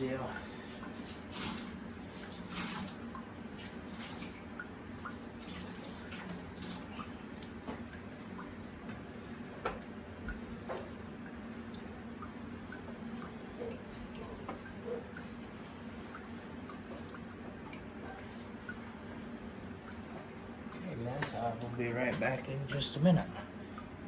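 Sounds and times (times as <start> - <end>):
steady low hum: 0.0 - 24.0
water dripping: 0.0 - 24.0.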